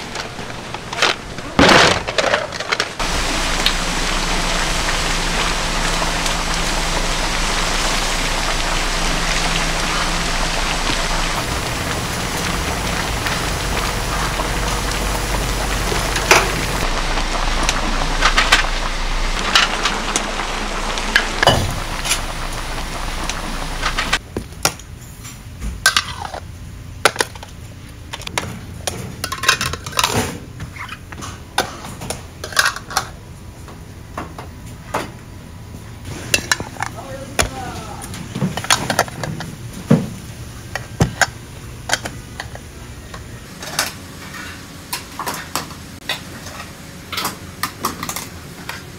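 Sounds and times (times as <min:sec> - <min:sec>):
gas burners hissing: 0:00.0 - 0:25.5, 0:28.0 - 0:48.9.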